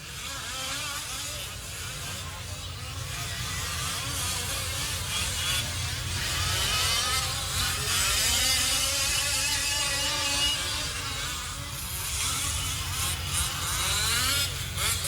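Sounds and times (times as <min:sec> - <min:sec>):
small two-stroke engines buzzing: 0:00.0 - 0:15.0.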